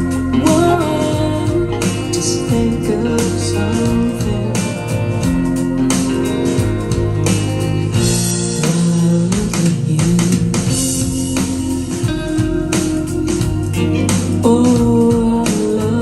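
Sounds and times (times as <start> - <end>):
instrumental guitar music on speakers: 0.0 - 16.0.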